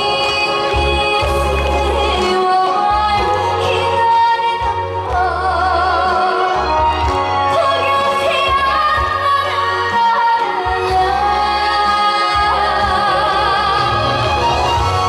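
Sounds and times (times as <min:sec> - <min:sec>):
woman singing: 0:00.0 - 0:14.9
band accompaniment with bass: 0:00.0 - 0:15.0.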